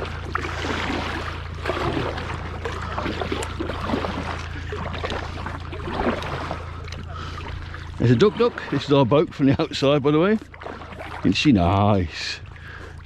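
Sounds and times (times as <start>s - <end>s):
paddle splashing in water: 0.0s - 13.0s
steady low hum: 0.0s - 13.0s
water trickling: 0.0s - 13.0s.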